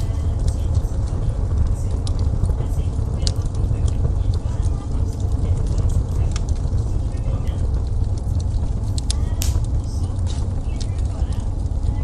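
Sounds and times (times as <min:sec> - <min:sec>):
fire popping and snapping: 0:00.0 - 0:12.0
flames rumbling: 0:00.0 - 0:12.0.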